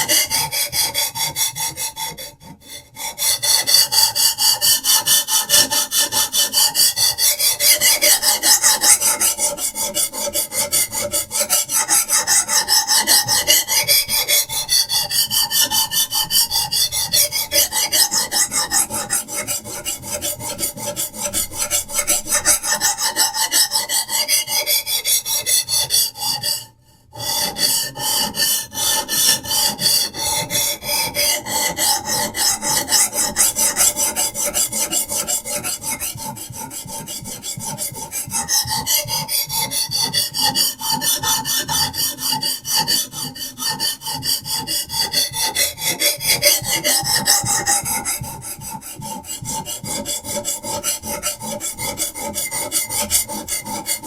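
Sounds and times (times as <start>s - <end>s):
sharpening stone rasping on knife: 0.0s - 54.0s.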